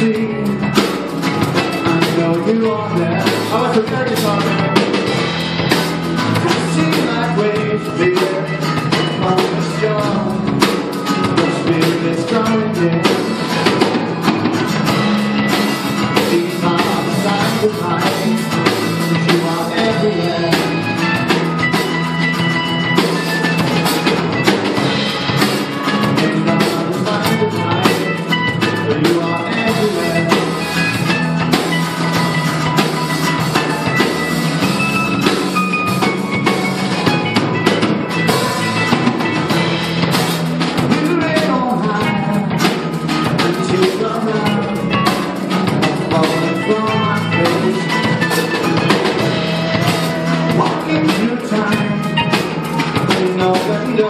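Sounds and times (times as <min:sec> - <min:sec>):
man singing lead: 0:00.0 - 0:35.8, 0:36.5 - 0:54.0
acoustic guitars strummed: 0:00.0 - 0:54.0
drum kit: 0:00.0 - 0:54.0.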